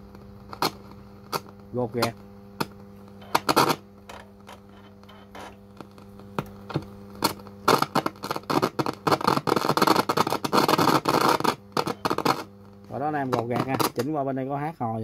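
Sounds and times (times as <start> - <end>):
loud scratchy crackling: 0.0 - 2.2, 3.2 - 6.2, 7.1 - 14.1
radio hum with clicks: 0.0 - 14.7.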